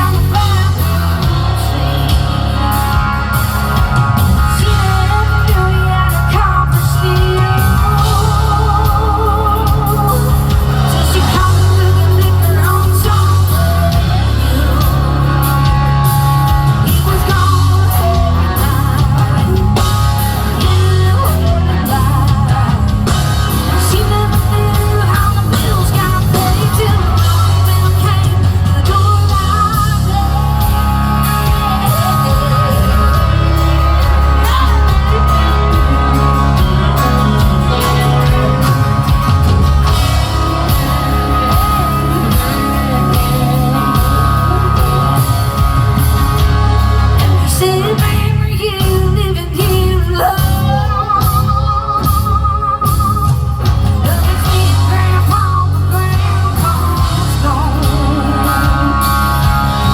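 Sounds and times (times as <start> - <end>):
live rock band playing: 0.0 - 59.9
woman singing: 0.0 - 59.9.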